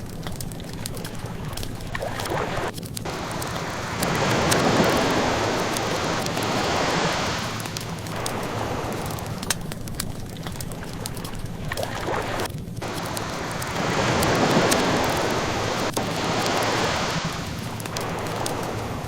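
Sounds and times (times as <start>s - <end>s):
wood fire crackling: 0.0s - 19.0s
ocean waves washing in: 0.8s - 19.0s.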